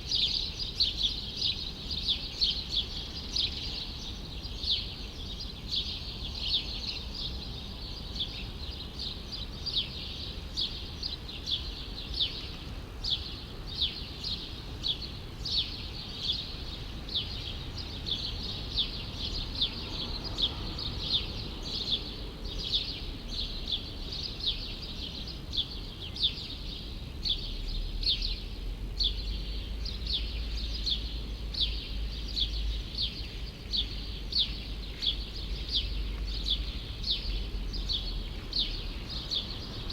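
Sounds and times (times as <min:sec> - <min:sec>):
low rumble of city noise: 0:00.0 - 0:39.9.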